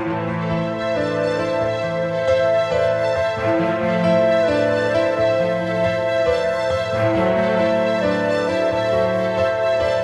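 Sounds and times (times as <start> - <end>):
soft sustained chords music: 0.0 - 10.0.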